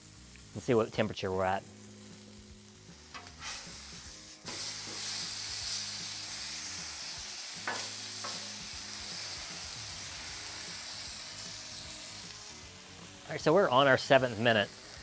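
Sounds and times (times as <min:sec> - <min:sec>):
steak sizzling on griddle: 0:00.0 - 0:15.0.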